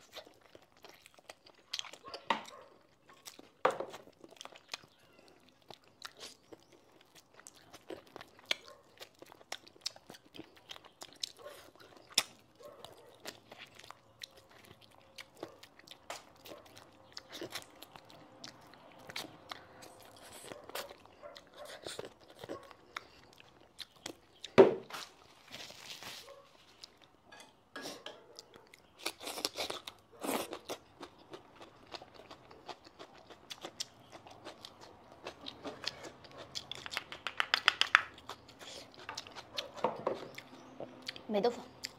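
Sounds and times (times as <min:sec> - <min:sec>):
chewing meat off the bone: 0:00.0 - 0:25.0, 0:27.8 - 0:41.9.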